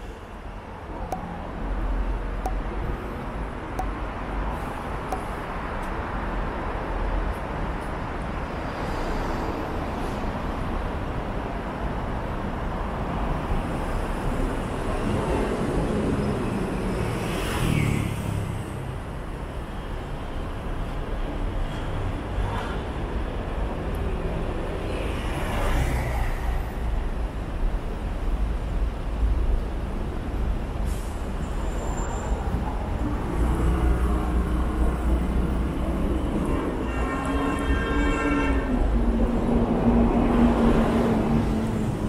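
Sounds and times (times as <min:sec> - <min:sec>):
traffic rumble: 0:00.0 - 0:42.0
vehicles passing: 0:00.0 - 0:42.0.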